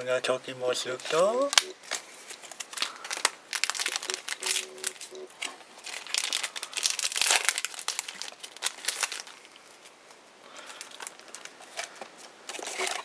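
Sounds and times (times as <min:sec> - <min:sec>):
wrapper crinkling and tearing: 0:01.0 - 0:13.0.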